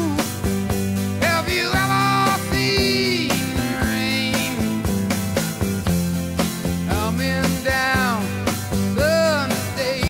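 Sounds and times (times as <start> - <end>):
song with drum beat: 0.0 - 10.0.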